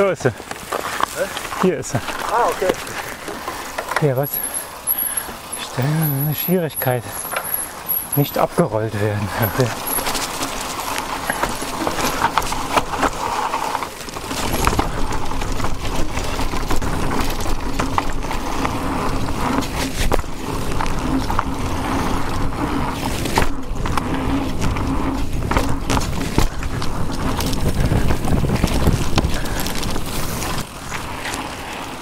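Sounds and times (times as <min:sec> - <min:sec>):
bike rattling: 0:00.0 - 0:32.0
bike tyres rolling over dirt: 0:00.0 - 0:32.0.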